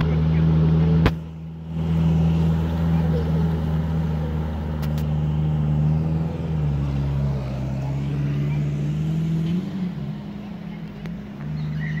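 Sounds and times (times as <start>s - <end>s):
car engine running: 0.0s - 12.0s
vehicle driving through water: 0.0s - 12.0s.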